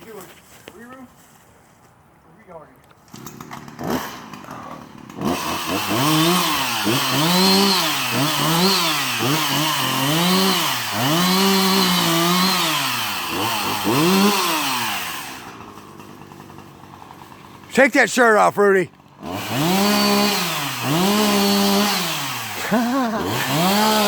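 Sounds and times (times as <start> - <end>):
chainsaw engine revving: 3.0 - 24.0.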